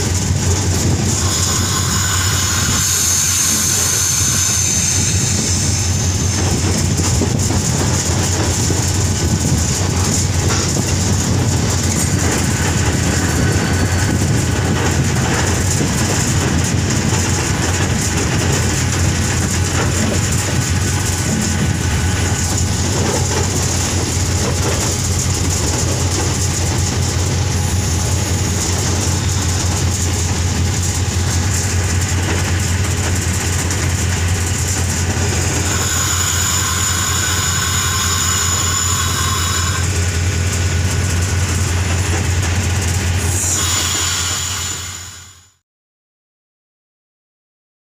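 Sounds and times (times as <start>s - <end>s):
locomotive engine drone: 0.0s - 45.6s
wheels rumbling on track: 0.0s - 45.6s
high-pitched squeal: 0.6s - 9.0s, 10.2s - 45.6s.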